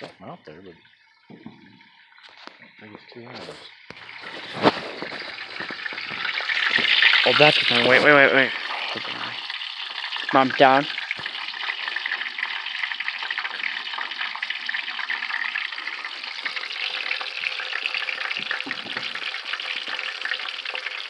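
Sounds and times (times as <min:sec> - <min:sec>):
fish frying in hot grease: 0:00.7 - 0:21.0.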